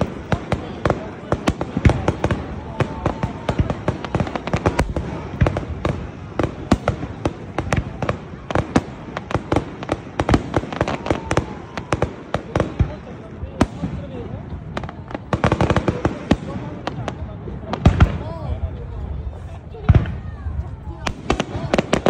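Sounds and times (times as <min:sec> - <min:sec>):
fireworks bursting: 0:00.0 - 0:22.0
fireworks crackle and rumble: 0:00.0 - 0:22.0.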